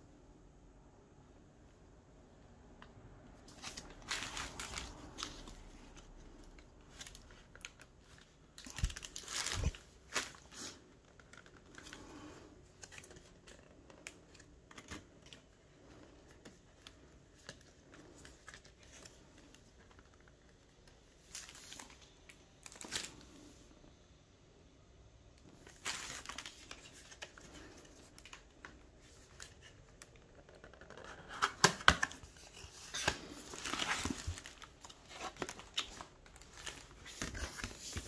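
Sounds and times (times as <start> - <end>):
packaging crinkling and tearing: 3.4 - 23.3, 25.4 - 38.0.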